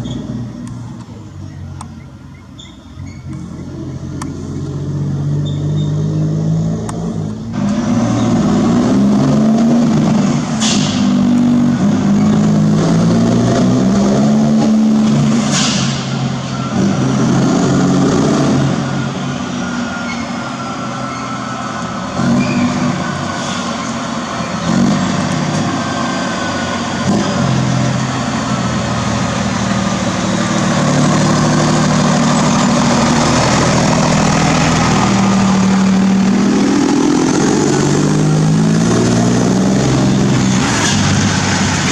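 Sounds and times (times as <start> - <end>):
loud diesel truck engine: 0.0 - 41.9.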